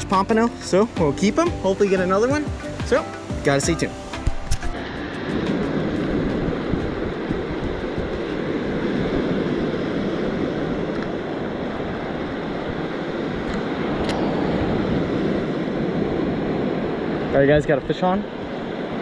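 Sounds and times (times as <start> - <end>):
ocean surf: 0.0 - 19.0
wind on a beach: 0.0 - 19.0.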